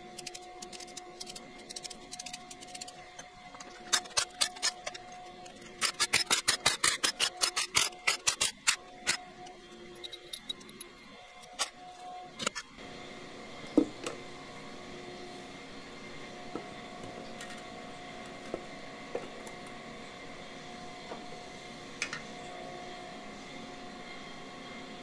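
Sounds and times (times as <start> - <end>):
steady shop hum: 0.0 - 25.0.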